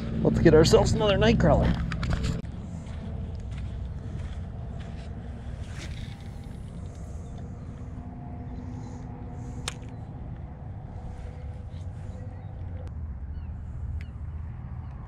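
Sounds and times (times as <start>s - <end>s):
faint steady hum: 0.0s - 15.0s
wind rumbling on microphone: 0.0s - 15.0s.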